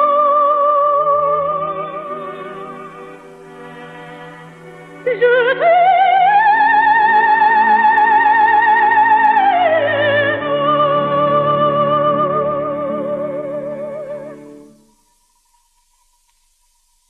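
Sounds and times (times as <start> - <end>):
operatic soprano singing: 0.0 - 14.7
orchestral accompaniment: 1.0 - 15.0.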